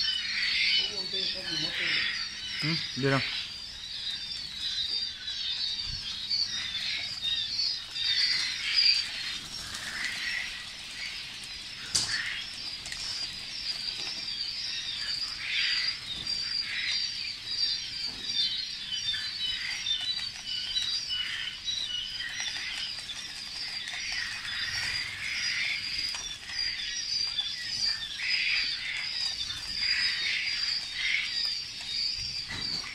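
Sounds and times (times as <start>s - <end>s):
quail chicks chirping: 0.0s - 32.9s.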